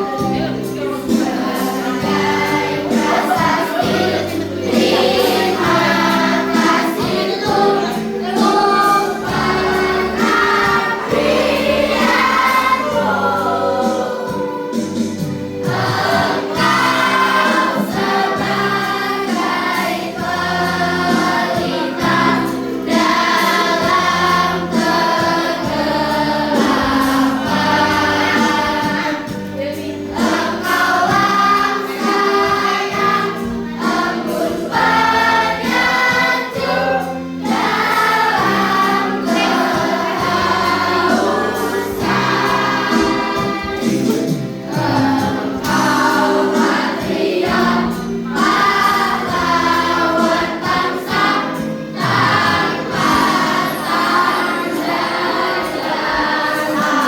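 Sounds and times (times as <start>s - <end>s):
children's choir singing a hymn: 0.0s - 57.0s
instrumental accompaniment with bass: 0.0s - 57.0s.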